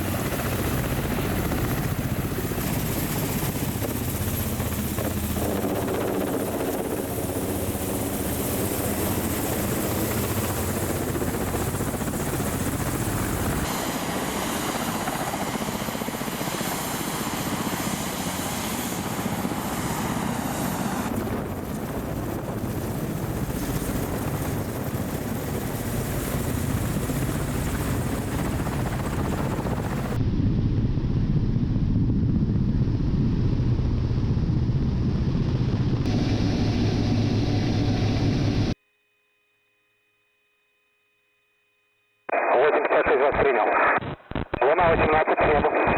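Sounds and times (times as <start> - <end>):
helicopter rotor and engine noise: 0.0 - 38.8, 42.3 - 45.9.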